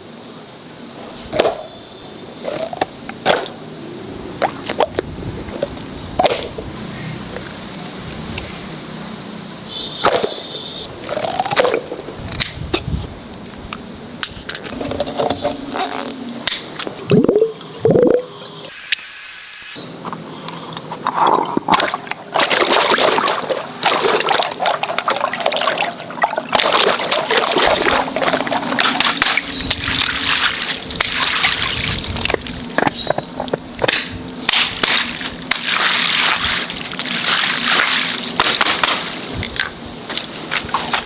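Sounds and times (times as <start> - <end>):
water splashing and sloshing: 2.4 - 18.8, 20.7 - 41.0.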